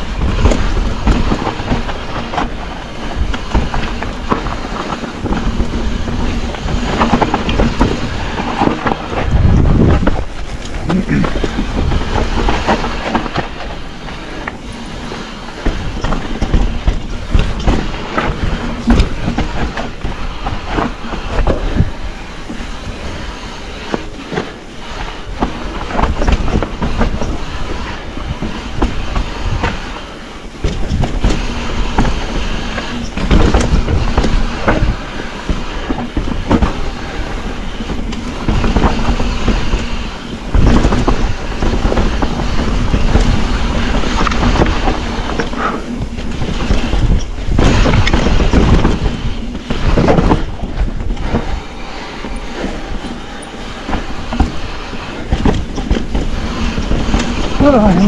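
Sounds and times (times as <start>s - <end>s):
bike clattering and knocking: 0.0s - 58.0s
bike tyres drumming over rock: 0.0s - 58.0s.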